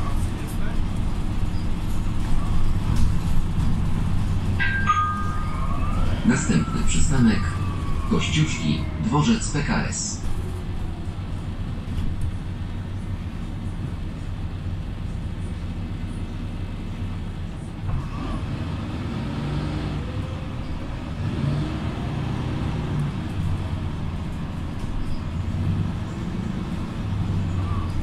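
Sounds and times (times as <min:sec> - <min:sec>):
bus diesel engine humming: 0:00.0 - 0:28.0
road noise: 0:00.0 - 0:28.0.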